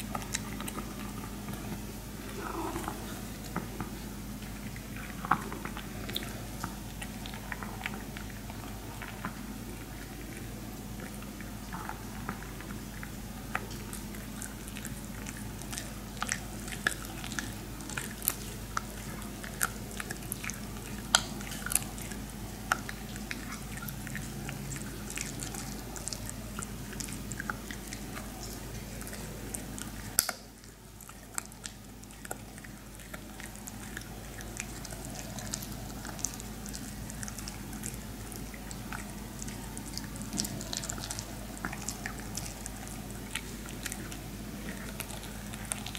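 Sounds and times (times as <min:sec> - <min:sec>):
dog chewing hard chew: 0:00.0 - 0:45.9
steady low hum: 0:00.0 - 0:45.9.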